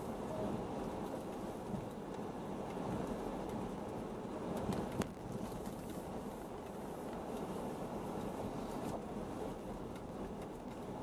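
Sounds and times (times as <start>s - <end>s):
tyres and engine rumble: 0.0s - 11.0s.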